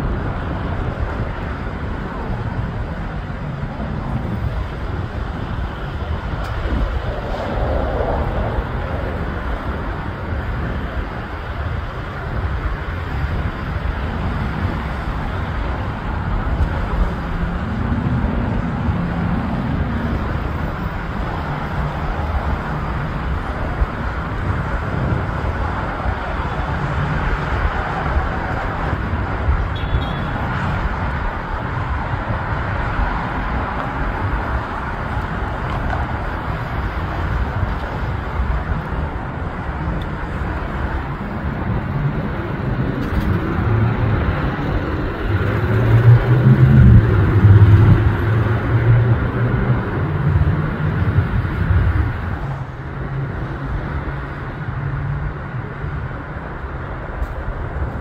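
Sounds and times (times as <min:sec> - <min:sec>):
aircraft engines rumbling: 0:00.0 - 0:58.0
traffic noise: 0:00.0 - 0:58.0.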